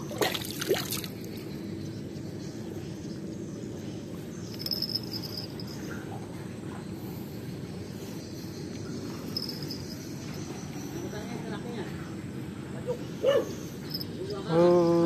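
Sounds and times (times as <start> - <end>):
insects chirping: 0.0 - 15.0
low outdoor hum: 0.0 - 15.0.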